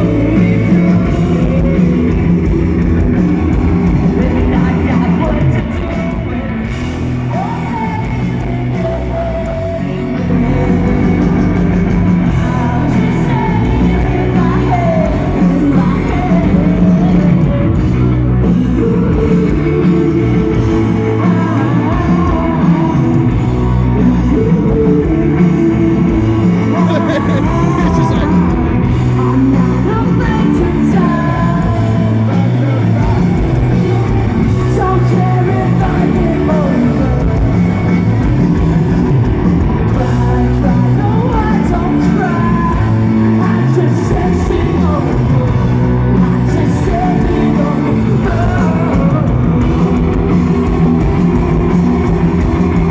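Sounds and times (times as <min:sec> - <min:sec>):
lead vocal singing: 0:00.0 - 0:52.9
live rock band playing: 0:00.0 - 0:52.9.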